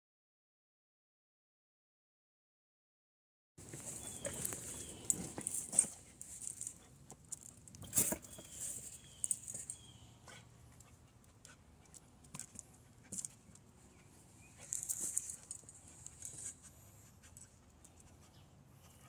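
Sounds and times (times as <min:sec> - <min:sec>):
dog sniffing and snuffling: 0:03.6 - 0:19.0
paws scraping wheel rim: 0:03.6 - 0:19.0.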